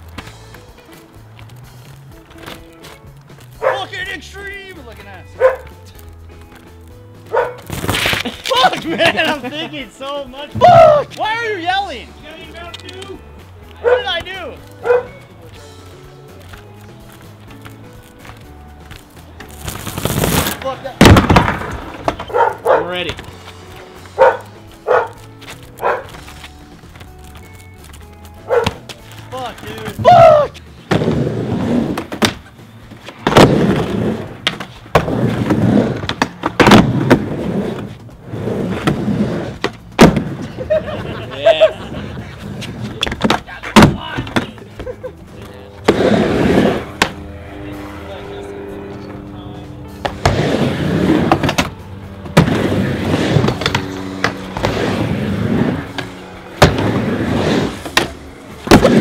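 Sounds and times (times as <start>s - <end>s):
skateboard wheels rumbling: 0.0s - 59.0s.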